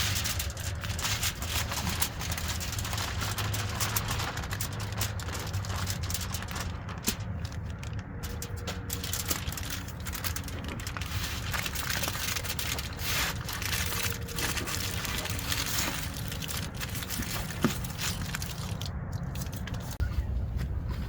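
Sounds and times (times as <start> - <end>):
aluminium foil crinkling: 0.0 - 20.0
steady low rumble: 0.0 - 21.0.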